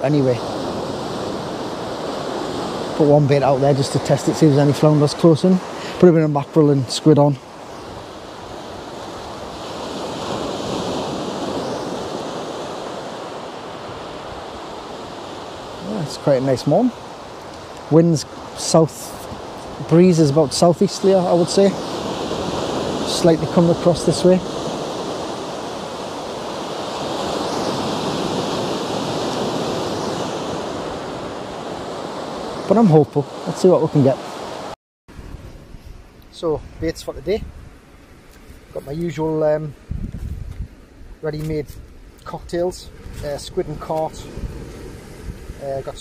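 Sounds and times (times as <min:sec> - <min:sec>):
sea waves washing over rocky shore: 0:00.0 - 0:35.3, 0:41.4 - 0:46.0.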